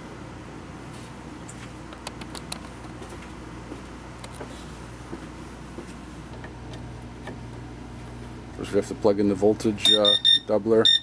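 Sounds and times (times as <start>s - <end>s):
submersible pump humming: 0.0s - 11.0s.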